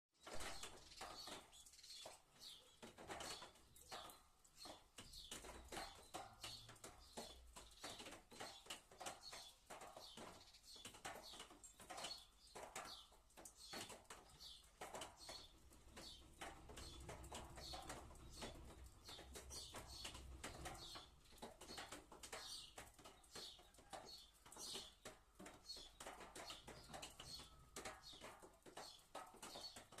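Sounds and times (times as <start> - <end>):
rain patter: 0.1 - 30.0
faint sparrows chirping: 0.2 - 30.0.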